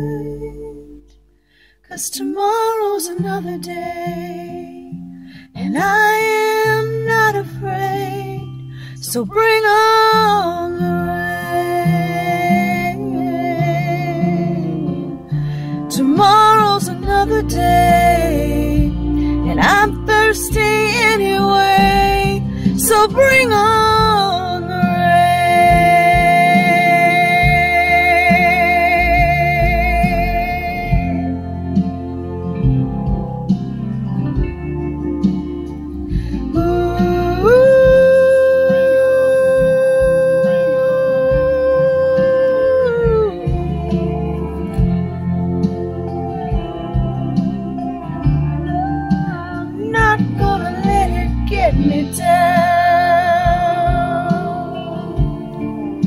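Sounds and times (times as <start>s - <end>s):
woman singing: 0.0s - 1.1s, 1.8s - 31.9s, 36.1s - 56.0s
country backing track: 0.0s - 56.0s.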